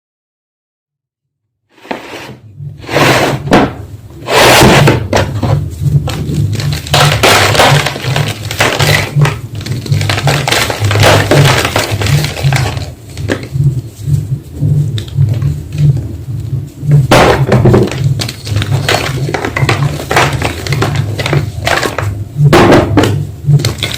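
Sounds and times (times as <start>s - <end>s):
low pulsing hum: 2.4s - 23.9s.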